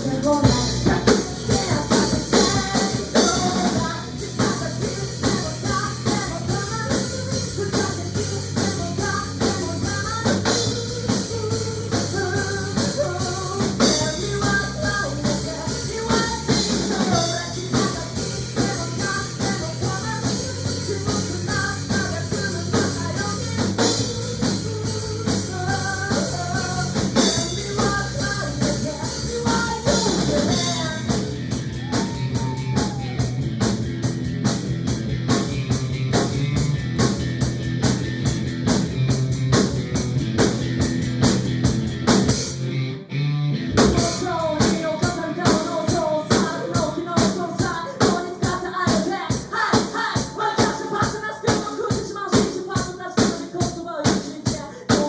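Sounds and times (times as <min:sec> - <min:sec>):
rock music with singing: 0:00.0 - 0:55.0.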